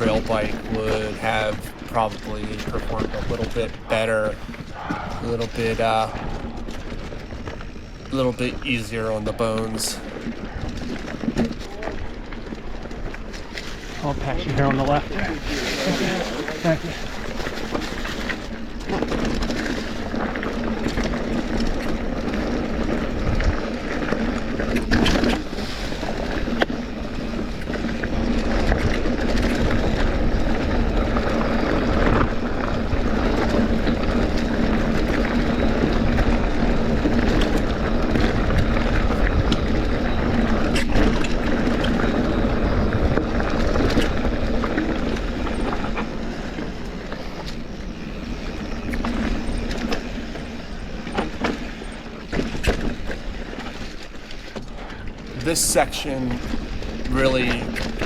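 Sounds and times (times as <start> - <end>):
bike tyres rumbling on rock: 0.0 - 58.0.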